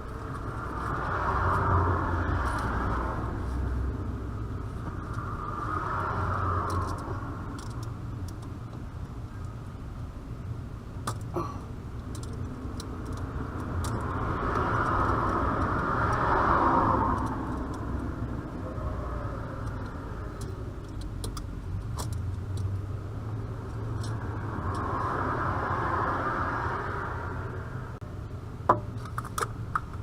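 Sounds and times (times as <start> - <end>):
vehicle passing on road: 0.0 - 10.1, 11.8 - 28.0.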